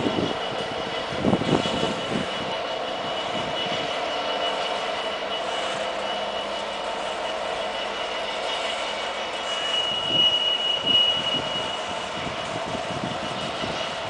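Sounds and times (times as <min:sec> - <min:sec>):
diesel locomotive engine: 0:00.0 - 0:14.0
train rolling on track: 0:00.0 - 0:14.0.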